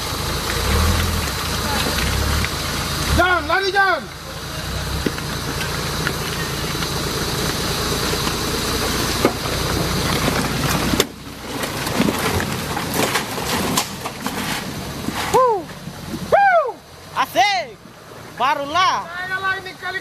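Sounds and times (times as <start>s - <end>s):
car engine running: 0.0s - 16.3s.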